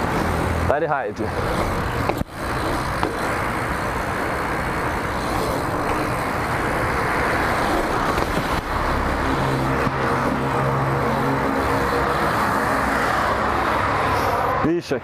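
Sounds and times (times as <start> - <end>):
bike tyres rolling on asphalt: 0.0 - 14.5
road traffic: 0.0 - 15.0
vehicle engine hum: 0.0 - 15.0.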